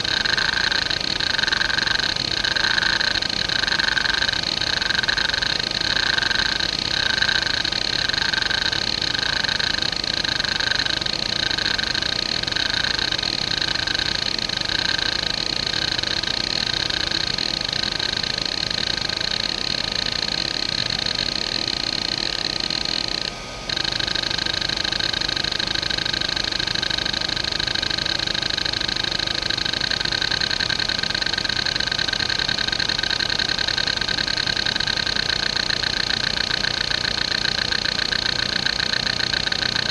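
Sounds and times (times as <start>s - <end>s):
hard drive head chatter: 0.0s - 39.9s
hard drive spindle motor: 0.0s - 39.9s.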